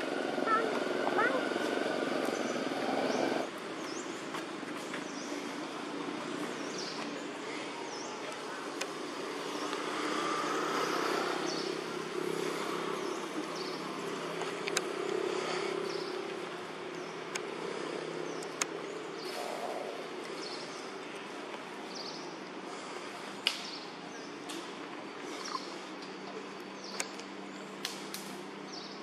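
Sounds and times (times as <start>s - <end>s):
distant motor vehicle hum: 0.0s - 29.0s.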